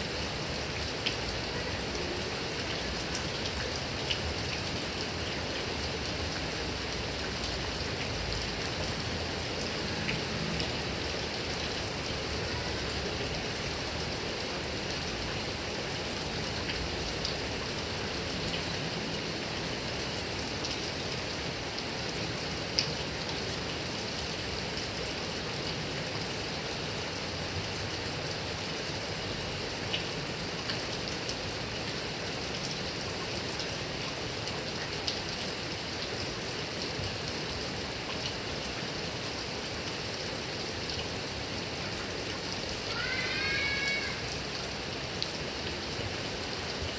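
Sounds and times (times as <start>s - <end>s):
heavy rain on grass and trees: 0.0s - 46.9s.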